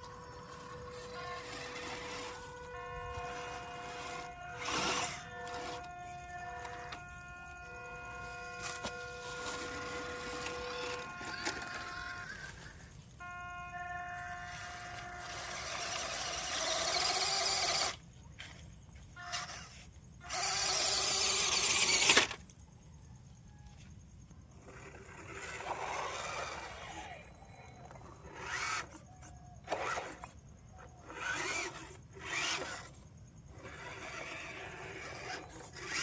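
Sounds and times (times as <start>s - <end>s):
toy car electric motor whirring: 0.0s - 18.6s, 19.2s - 22.6s, 24.5s - 36.0s.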